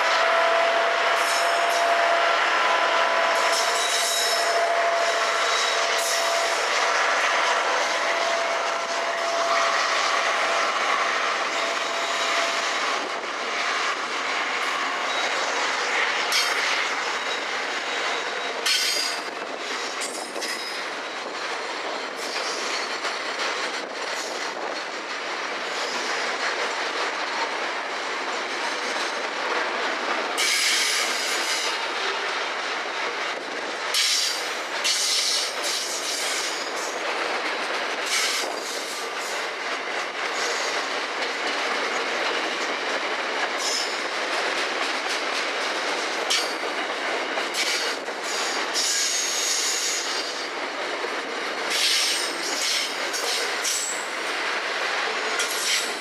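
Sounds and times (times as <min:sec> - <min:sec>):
train clanks and screeches: 0:00.0 - 0:56.0
train wheels rumbling on rails: 0:00.0 - 0:56.0.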